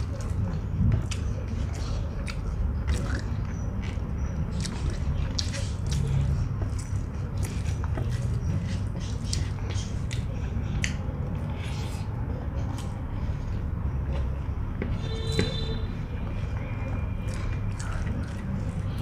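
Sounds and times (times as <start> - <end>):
wet chewing with mouth clicks: 0.0 - 15.5, 16.2 - 19.0.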